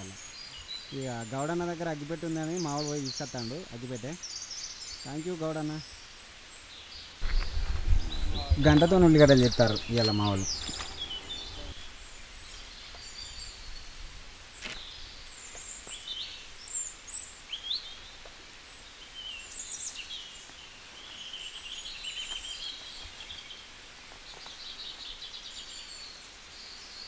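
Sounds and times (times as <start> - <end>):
faint outdoor background: 0.0 - 27.0
small birds chirping: 0.0 - 27.0.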